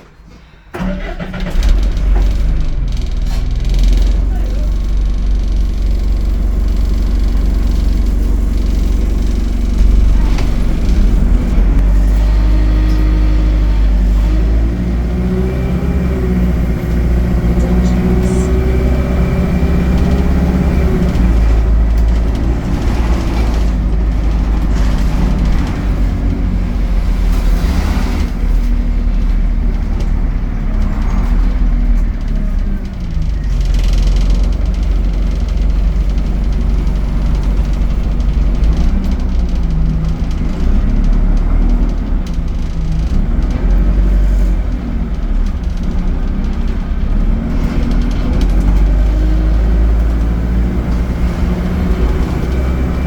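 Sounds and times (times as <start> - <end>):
bus engine rumbling: 0.0 - 53.0.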